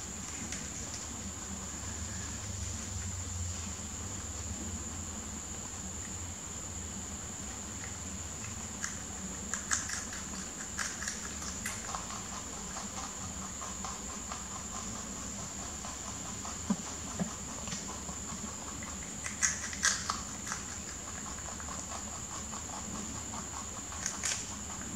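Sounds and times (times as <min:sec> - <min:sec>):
rabbits munching leaves: 0:00.0 - 0:24.9.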